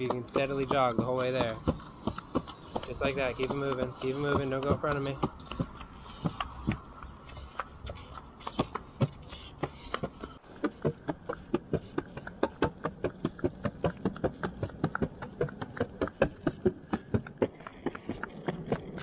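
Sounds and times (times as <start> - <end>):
jogging footsteps on concrete: 0.0 - 19.0.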